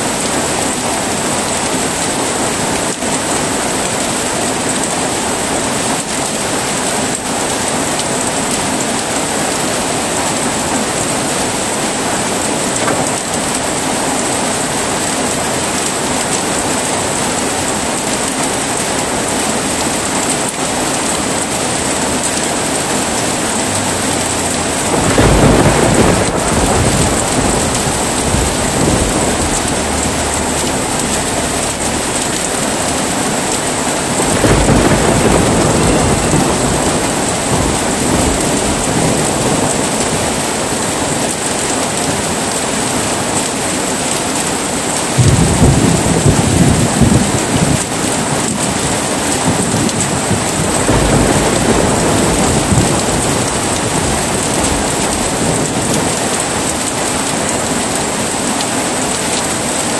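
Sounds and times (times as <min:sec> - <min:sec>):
thunder rumbling: 0:00.0 - 0:42.7, 0:44.8 - 0:59.7
heavy rain falling: 0:00.0 - 0:59.9.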